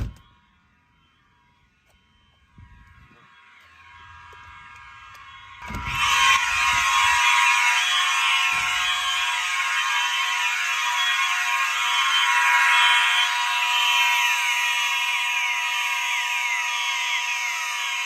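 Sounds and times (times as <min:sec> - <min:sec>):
fire alarm horns: 0:00.0 - 0:18.0.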